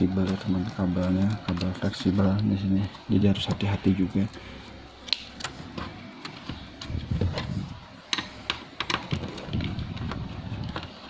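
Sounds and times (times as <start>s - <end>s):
rubbing and handling noise: 0.0s - 11.0s.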